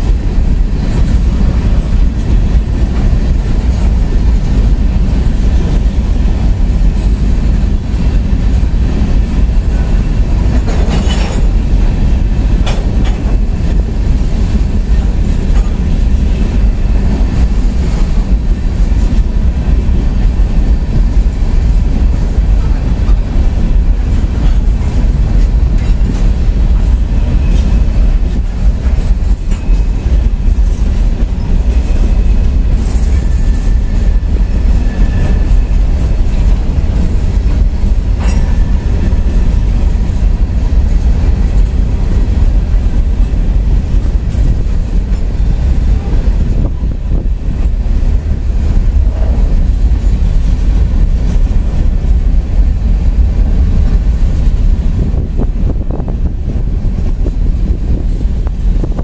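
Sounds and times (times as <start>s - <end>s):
wheels clacking over rail joints: 0.0s - 55.3s
freight train wheels rumbling: 0.0s - 59.0s.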